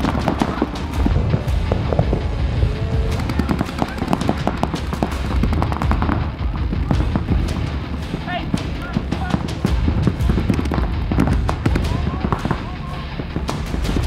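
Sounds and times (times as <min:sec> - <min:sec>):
paintball markers firing: 0:00.0 - 0:02.3, 0:03.0 - 0:14.0
background music: 0:00.0 - 0:14.0.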